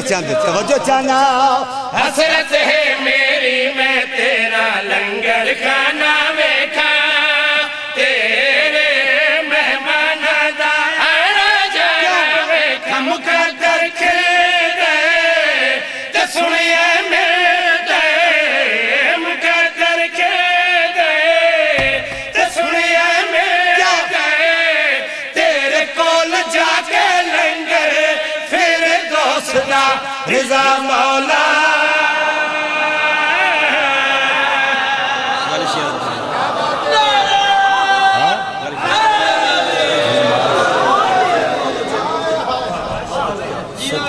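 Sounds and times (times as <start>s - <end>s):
men chanting devotional verse: 0.0s - 44.0s.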